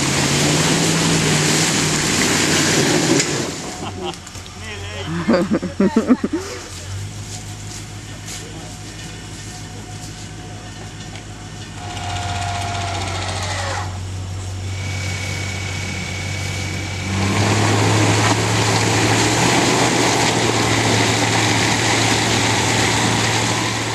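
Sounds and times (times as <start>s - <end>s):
off-road engine running: 0.0s - 23.9s.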